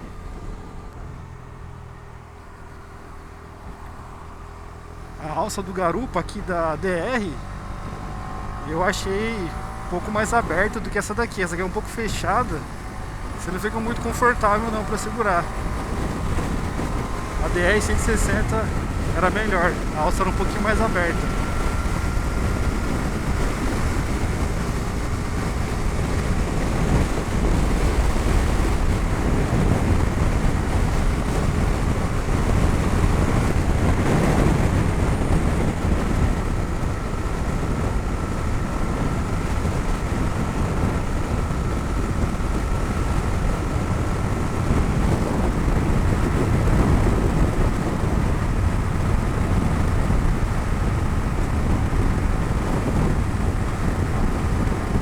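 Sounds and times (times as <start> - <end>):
motorcycle engine cruising: 0.0 - 55.0
road noise: 0.0 - 55.0
wind rush: 6.4 - 55.0.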